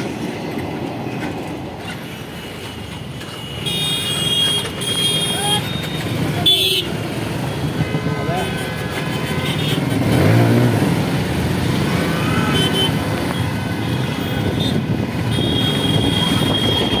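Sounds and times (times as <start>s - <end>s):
motorcycle and scooter engines: 0.0s - 17.0s.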